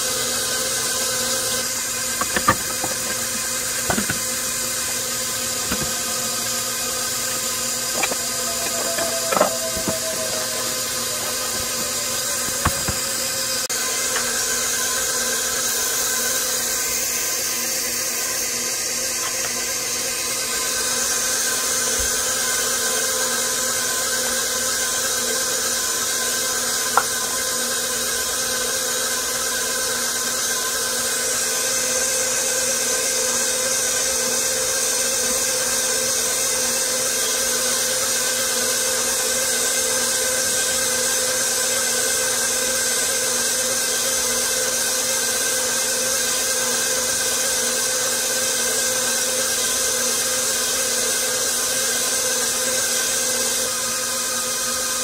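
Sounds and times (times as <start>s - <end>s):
stand mixer motor whining: 0.0s - 55.0s.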